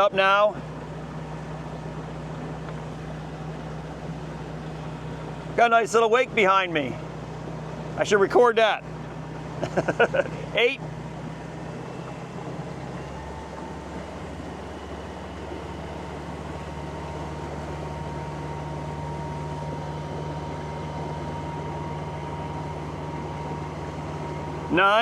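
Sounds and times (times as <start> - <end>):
electric outboard motor whine: 0.0 - 25.0
water rushing: 0.0 - 25.0.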